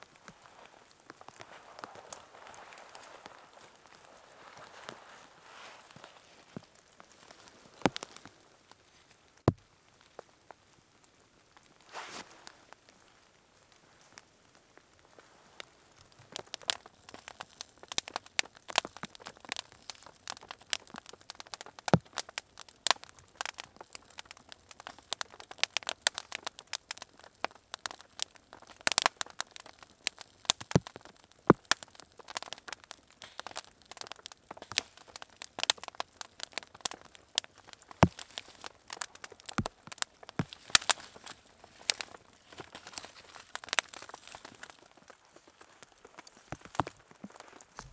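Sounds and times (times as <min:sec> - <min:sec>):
fire pops and snaps: 0:00.0 - 0:47.9
wood campfire crackling: 0:00.0 - 0:47.9.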